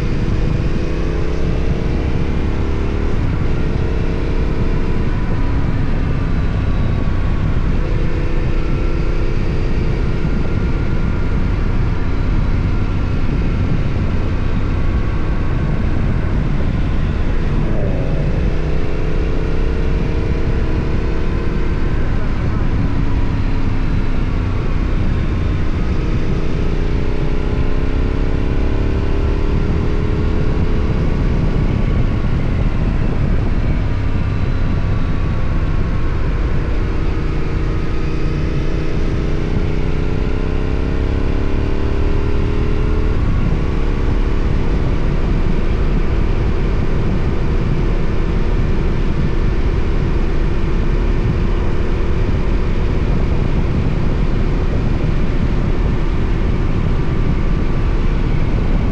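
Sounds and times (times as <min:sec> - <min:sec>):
motorcycle engine accelerating: 0:00.0 - 0:58.9
wind rush on microphone: 0:00.0 - 0:58.9.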